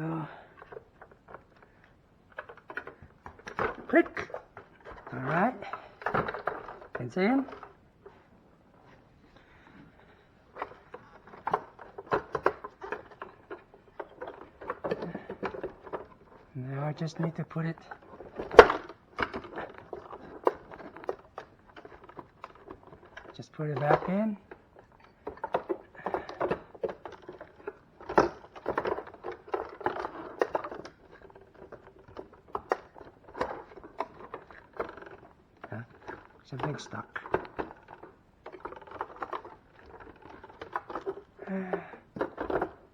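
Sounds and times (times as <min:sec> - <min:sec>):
plastic parts clicking and knocking: 0:00.3 - 0:08.2, 0:09.4 - 0:42.9.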